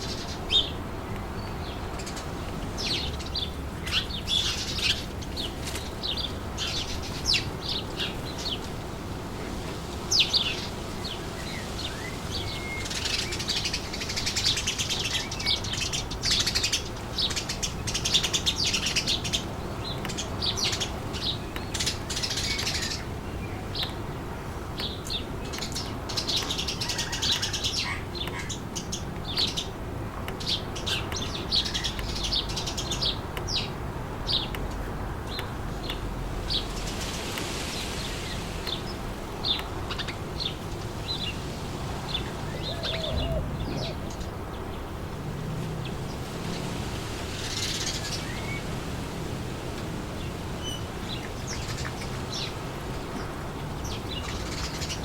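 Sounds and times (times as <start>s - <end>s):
birds chirping and twittering: 0.0s - 55.0s
low rush of wind: 0.0s - 55.0s.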